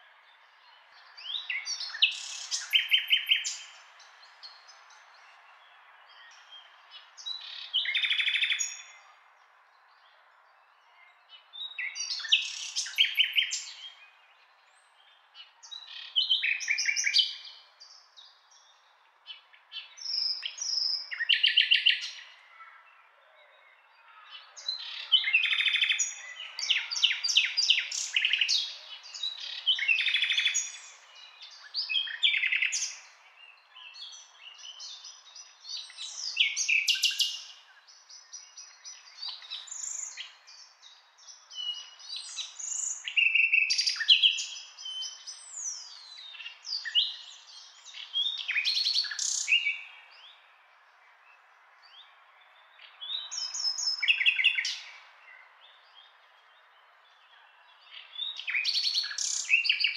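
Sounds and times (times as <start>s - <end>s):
nightingale singing: 0.0s - 9.3s, 10.8s - 22.4s, 23.1s - 59.9s.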